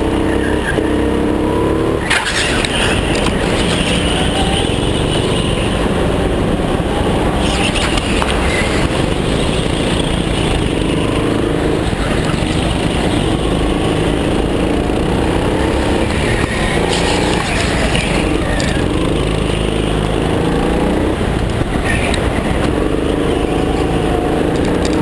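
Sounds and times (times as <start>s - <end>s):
go-kart engine running hard: 0.0s - 25.0s.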